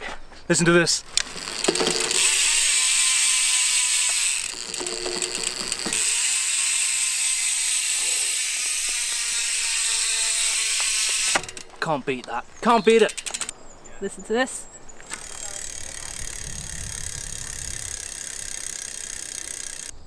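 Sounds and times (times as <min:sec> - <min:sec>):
bike freehub ratcheting buzz: 0:01.1 - 0:11.8, 0:12.8 - 0:13.5, 0:15.1 - 0:20.0.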